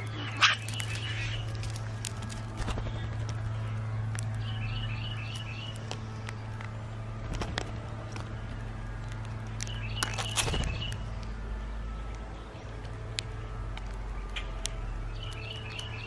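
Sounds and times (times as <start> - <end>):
beaks pecking seed on wood: 0.0 - 11.3, 12.0 - 16.0
birds chirping: 0.0 - 16.0
low steady hum: 0.0 - 16.0.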